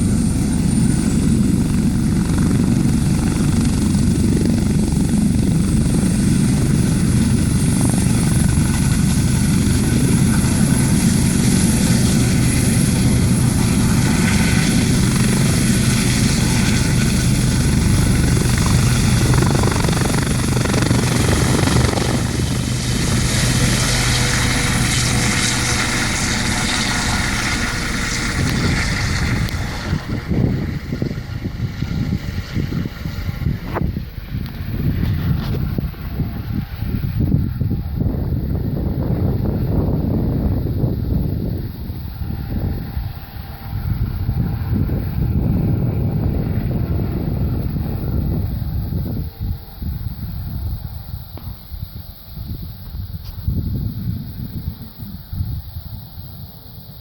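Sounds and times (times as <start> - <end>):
helicopter rotor rumble: 0.0 - 57.0
high turbine whine: 0.0 - 57.0.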